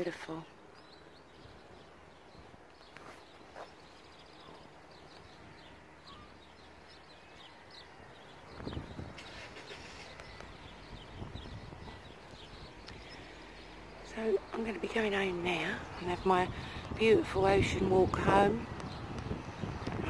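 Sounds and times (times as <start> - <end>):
faint outdoor background noise: 0.0 - 20.0
small birds chirping: 0.0 - 20.0.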